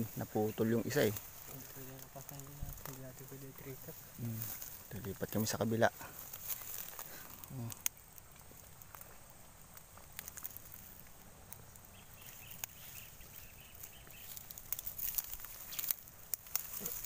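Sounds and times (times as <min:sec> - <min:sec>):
clicks and rustles handling: 0:00.0 - 0:17.0.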